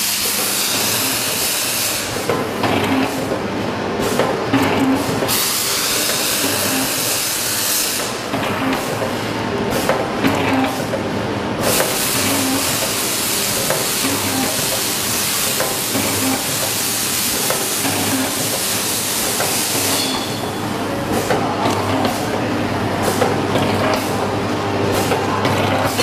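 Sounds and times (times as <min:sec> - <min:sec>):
packaging machine humming: 0:00.0 - 0:26.0.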